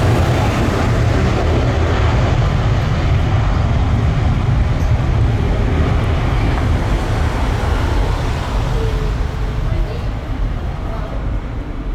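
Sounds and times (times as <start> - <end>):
jet airliner passing: 0.0 - 11.9.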